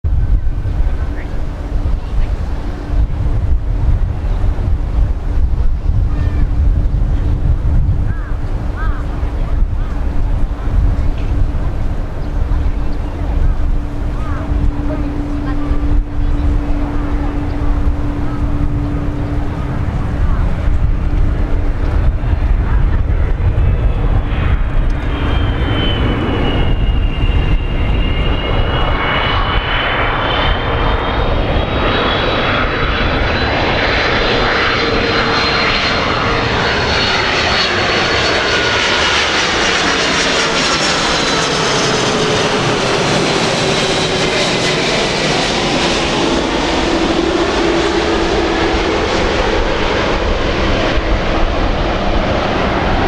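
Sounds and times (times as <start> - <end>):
jet engines roaring overhead: 0.0 - 53.0
wind rumble on microphone: 0.0 - 53.0.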